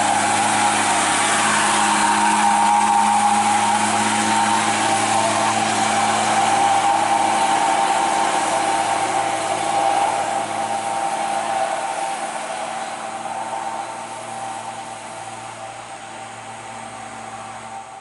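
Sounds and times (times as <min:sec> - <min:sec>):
truck engine running with whine: 0:00.0 - 0:18.0.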